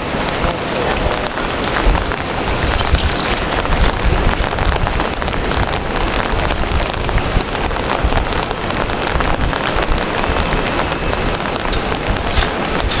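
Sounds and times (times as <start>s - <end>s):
heavy rain hissing: 0.0s - 13.0s
raindrop ticks: 0.2s - 13.0s.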